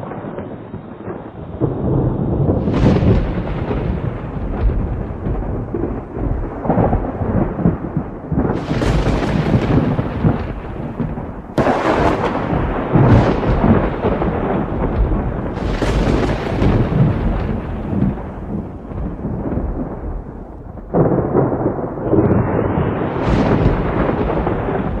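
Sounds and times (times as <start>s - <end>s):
thunder crack: 0.0s - 25.0s
thunder rumbling: 0.0s - 25.0s.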